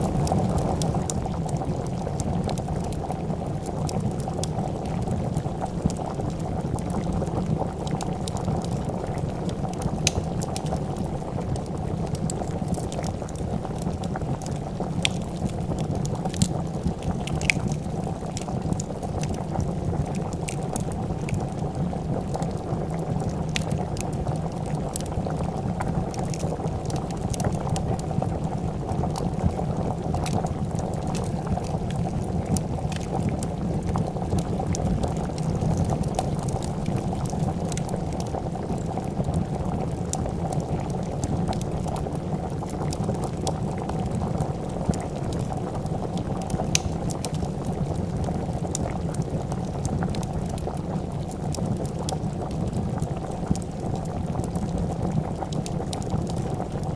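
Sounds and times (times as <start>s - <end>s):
soup bubbling in a pot: 0.0s - 56.9s
wood fire crackling: 0.0s - 56.9s.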